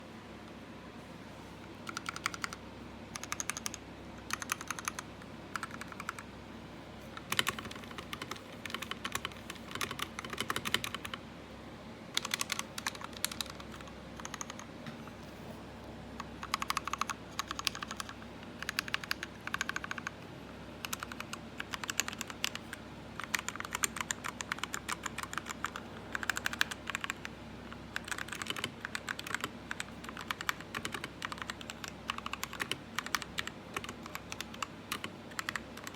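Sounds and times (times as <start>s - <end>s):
mechanical keyboard typing: 1.8s - 6.3s, 7.2s - 11.2s, 12.2s - 14.7s, 16.2s - 20.2s, 20.8s - 35.9s.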